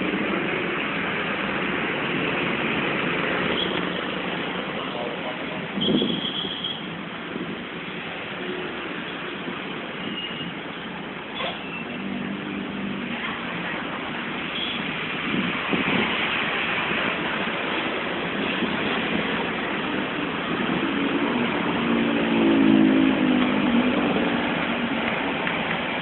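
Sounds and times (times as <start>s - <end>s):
passing road traffic: 0.0s - 26.0s.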